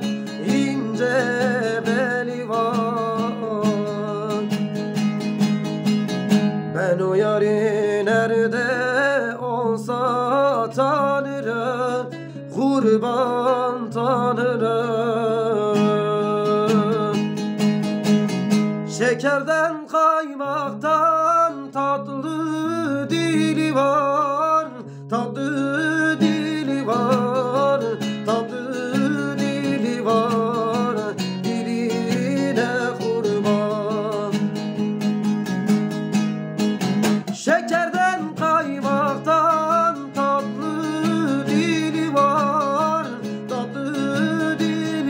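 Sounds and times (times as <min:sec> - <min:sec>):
strummed plucked strings: 0:00.0 - 0:45.0
man singing ornamented phrases: 0:00.1 - 0:04.6, 0:06.7 - 0:17.3, 0:18.9 - 0:34.7, 0:37.3 - 0:45.0.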